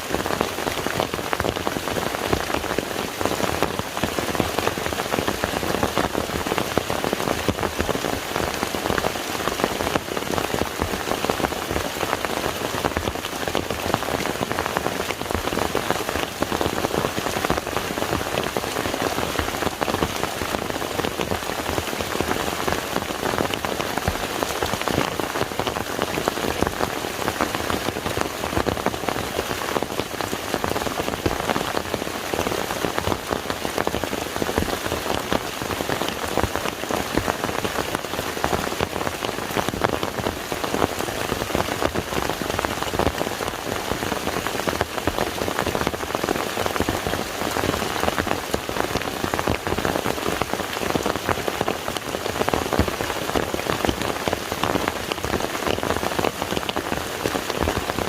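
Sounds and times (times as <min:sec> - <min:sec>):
rain on water: 0:00.0 - 0:58.0.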